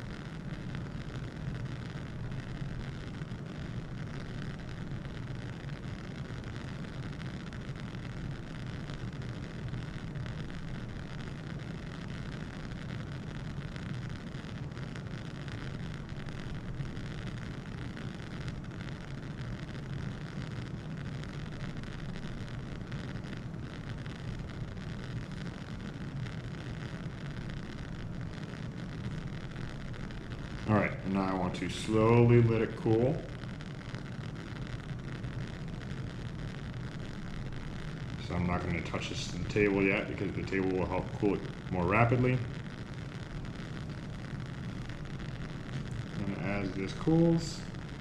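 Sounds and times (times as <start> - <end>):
gas flame rushing and hissing: 0.0 - 48.0.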